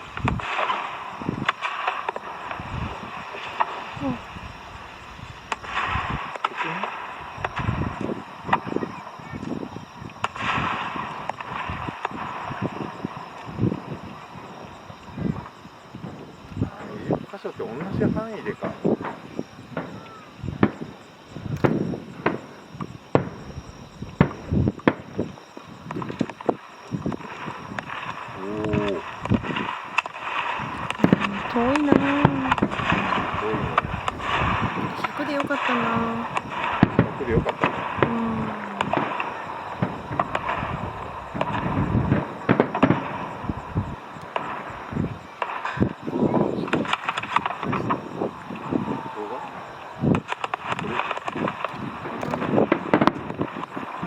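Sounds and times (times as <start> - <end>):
fireworks bangs: 0.0 - 16.3, 17.7 - 25.2, 25.8 - 48.8, 49.5 - 54.0.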